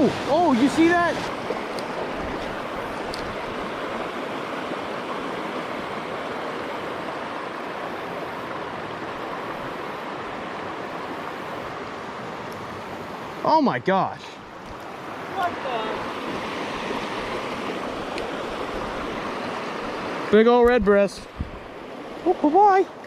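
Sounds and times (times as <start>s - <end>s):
river rushing over rocks: 0.0s - 13.5s, 14.5s - 23.0s.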